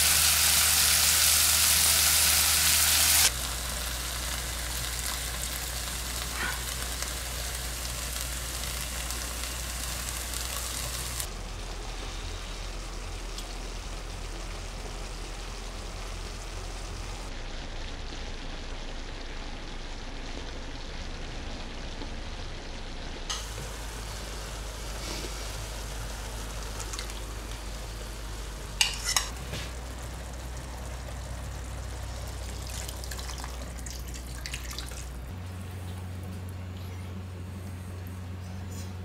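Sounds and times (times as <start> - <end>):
curry sizzling in a pan: 0.0 - 36.4.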